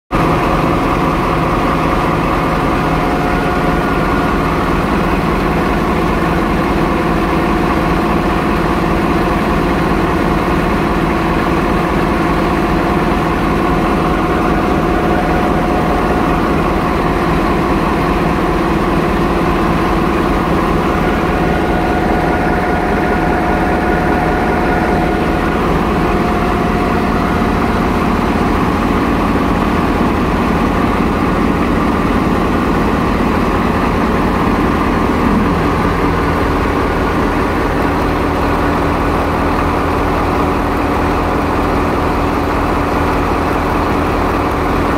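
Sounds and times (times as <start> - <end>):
diesel locomotive machinery drone: 0.1 - 44.9
steady high whine: 0.2 - 8.7, 11.3 - 39.4.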